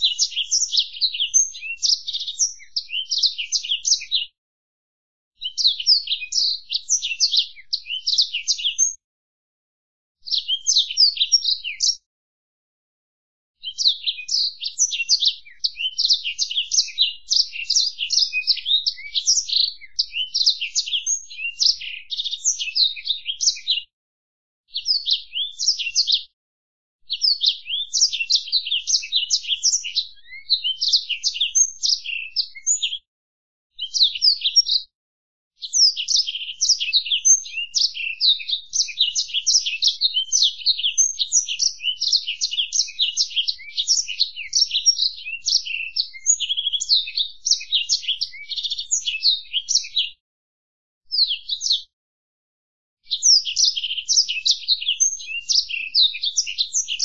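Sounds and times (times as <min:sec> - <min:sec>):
canary singing warbling song: 0:00.0 - 0:04.4, 0:05.4 - 0:09.0, 0:10.2 - 0:12.1, 0:13.6 - 0:23.9, 0:24.7 - 0:26.4, 0:27.1 - 0:33.1, 0:33.7 - 0:34.9, 0:35.6 - 0:50.2, 0:51.1 - 0:51.9, 0:53.0 - 0:57.0.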